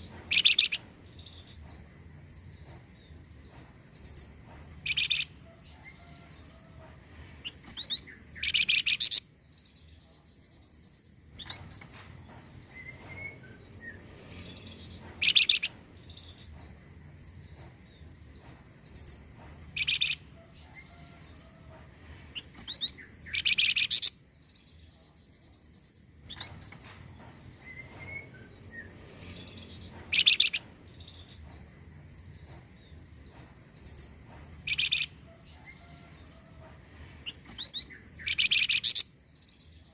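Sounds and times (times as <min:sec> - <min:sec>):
recorded songbird chirping: 0:00.0 - 0:06.7, 0:07.4 - 0:21.1, 0:22.4 - 0:36.4, 0:37.2 - 0:39.9.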